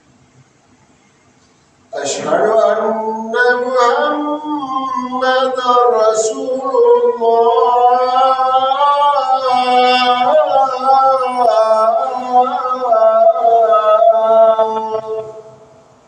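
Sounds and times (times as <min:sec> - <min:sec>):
man chanting melodically: 0:01.9 - 0:15.8.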